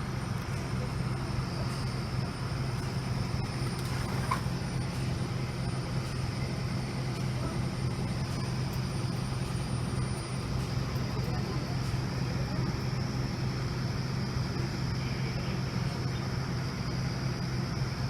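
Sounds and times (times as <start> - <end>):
faint high whine: 0.0 - 18.0
vehicle engine idling: 0.0 - 18.0.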